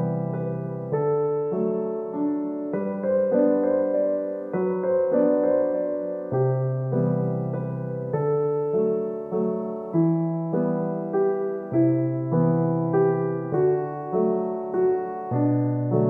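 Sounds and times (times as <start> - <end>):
gentle keyboard music: 0.0 - 16.0.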